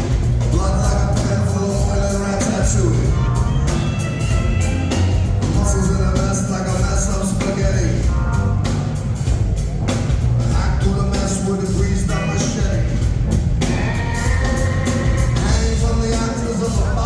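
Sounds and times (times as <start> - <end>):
heavy bass: 0.0 - 17.0
live rock band playing: 0.0 - 17.0
steady drum beat: 0.0 - 17.0.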